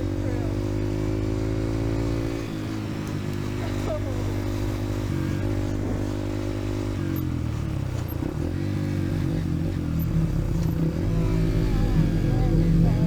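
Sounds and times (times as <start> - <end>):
dirt bike engine at low revs: 0.0 - 13.0.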